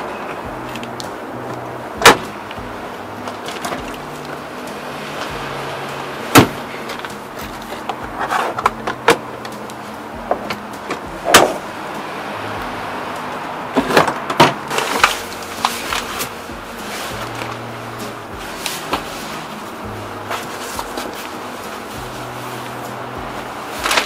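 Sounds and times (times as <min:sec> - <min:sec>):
faint background music: 0:00.0 - 0:24.0.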